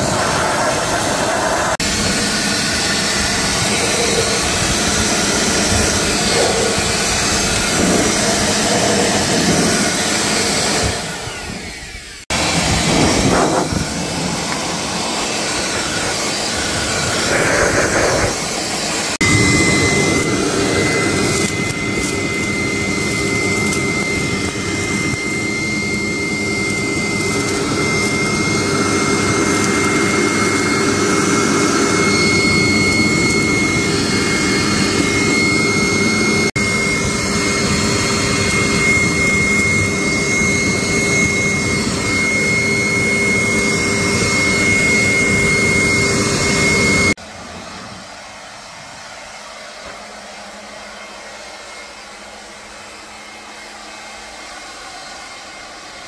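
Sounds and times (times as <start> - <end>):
high-speed workshop machine whining: 0.0 - 56.0.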